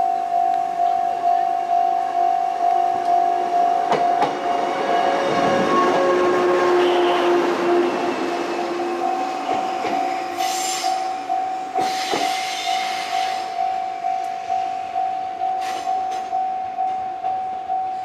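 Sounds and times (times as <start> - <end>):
level crossing warning bell: 0.0 - 18.0
passing train: 0.0 - 18.0.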